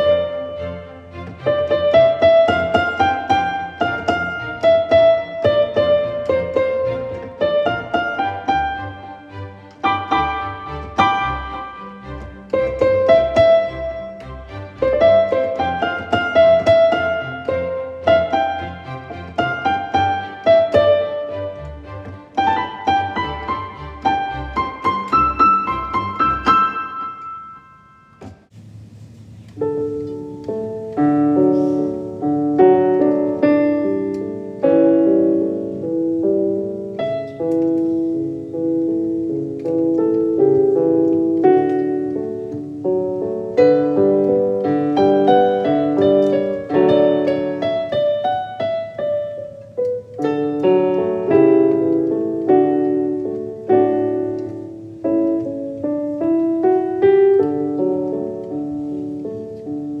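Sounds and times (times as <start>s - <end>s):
gentle solo piano melody: 0.0s - 28.6s, 29.3s - 60.0s.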